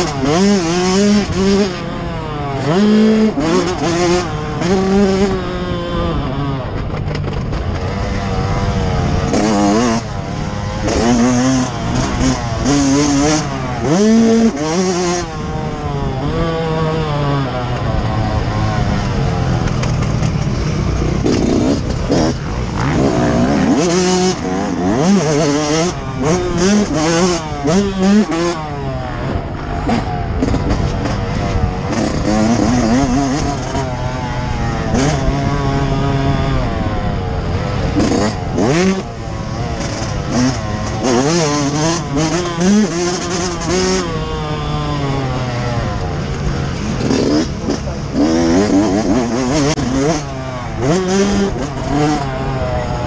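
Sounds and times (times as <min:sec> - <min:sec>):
two-stroke engine revving: 0:00.0 - 0:53.0.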